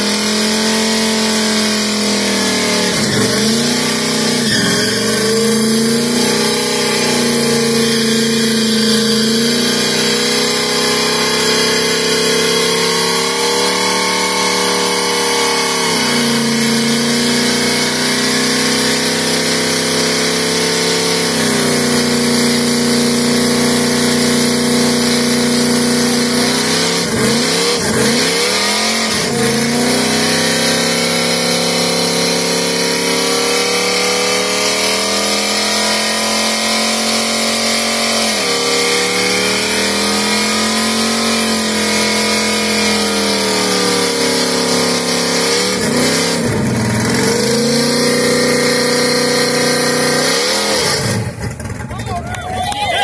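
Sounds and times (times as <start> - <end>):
car engine revving high: 0.0 - 53.0.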